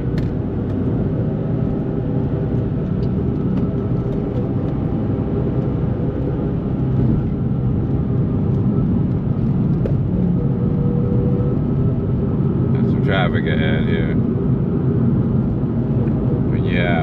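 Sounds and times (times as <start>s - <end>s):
car engine at steady speed: 0.0s - 17.0s
road noise: 0.0s - 17.0s.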